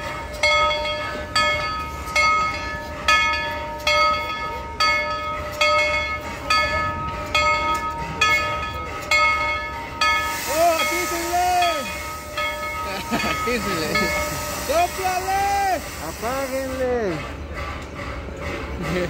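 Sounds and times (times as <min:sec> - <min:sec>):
locomotive bell ringing: 0:00.0 - 0:19.0.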